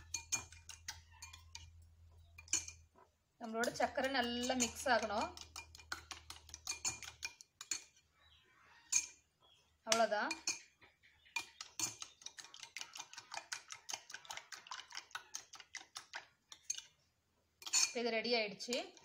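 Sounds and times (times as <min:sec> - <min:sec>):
metal utensil clinking glass bowl: 0:00.0 - 0:08.0, 0:08.8 - 0:09.2, 0:09.9 - 0:10.8, 0:11.4 - 0:16.9, 0:17.6 - 0:19.0.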